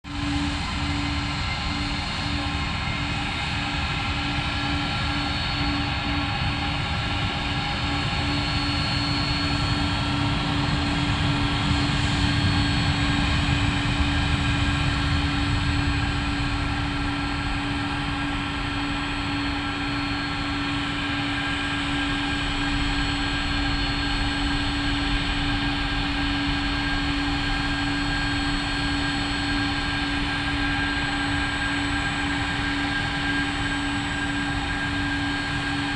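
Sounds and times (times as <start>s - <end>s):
jet engines at takeoff power: 0.0s - 35.9s.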